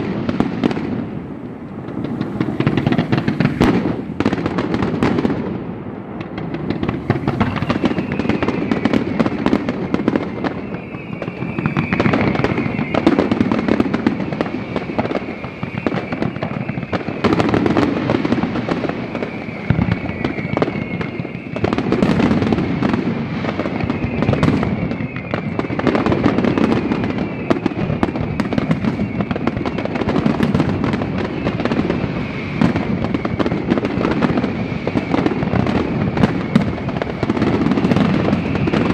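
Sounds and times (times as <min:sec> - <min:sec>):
fireworks banging and crackling: 0:00.0 - 0:38.9
fireworks whistling: 0:00.0 - 0:38.9.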